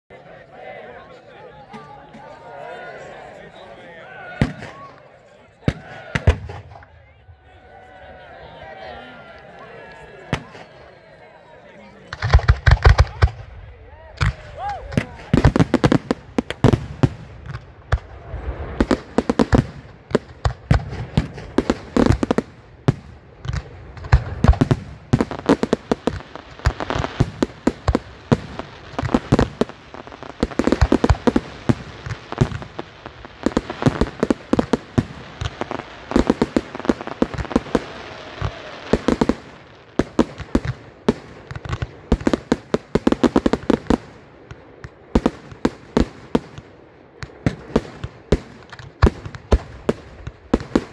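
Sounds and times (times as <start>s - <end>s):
fireworks banging and crackling: 4.3s - 7.5s, 9.6s - 11.0s, 11.8s - 50.9s.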